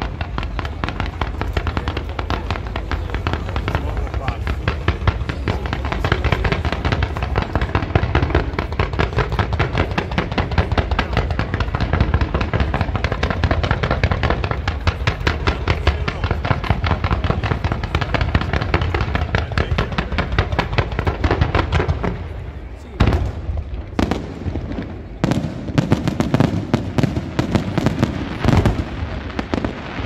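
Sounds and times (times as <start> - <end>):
fireworks popping and banging: 0.0 - 30.0.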